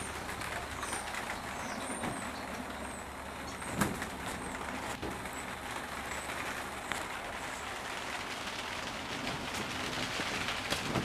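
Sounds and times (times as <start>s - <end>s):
rain on greenhouse roof: 0.0s - 11.0s.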